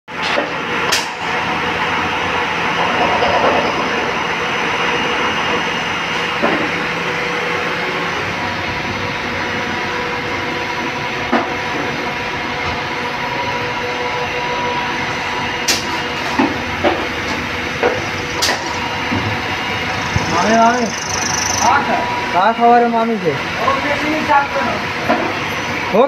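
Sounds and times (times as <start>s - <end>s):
lathe machine hum: 0.2s - 26.0s.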